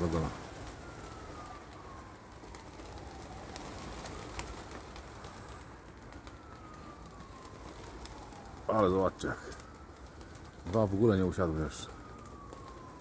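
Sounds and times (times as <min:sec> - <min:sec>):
pigeons cooing: 0:00.0 - 0:11.2.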